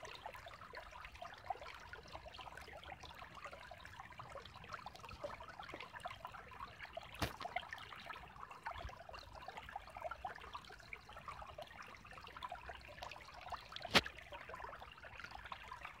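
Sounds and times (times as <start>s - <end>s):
creek trickling over rocks: 0.0s - 16.0s.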